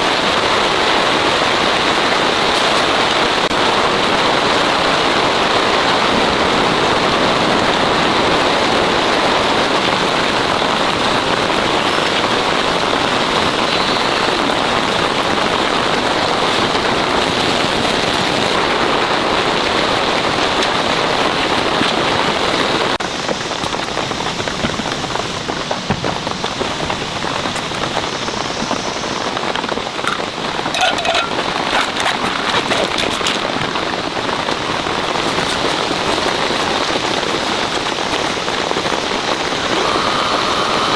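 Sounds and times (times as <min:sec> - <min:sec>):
heavy rain on a tent: 0:00.0 - 0:40.9.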